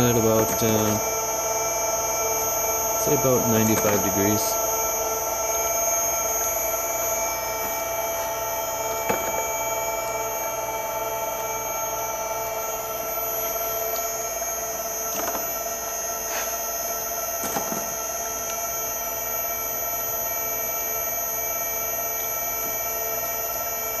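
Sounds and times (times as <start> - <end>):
oil press motor whining: 0.0 - 24.0.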